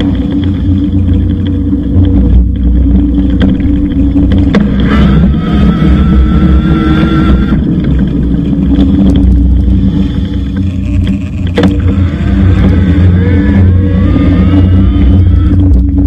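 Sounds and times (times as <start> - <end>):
faint rising whines: 0.0 - 16.0
wind on microphone: 0.0 - 16.0.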